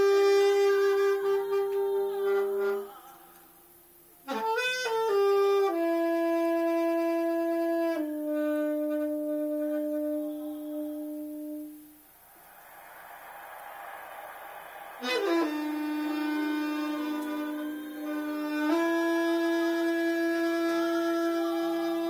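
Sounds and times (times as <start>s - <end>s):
solo saxophone: 0.0s - 3.5s, 4.2s - 12.1s, 15.0s - 22.0s.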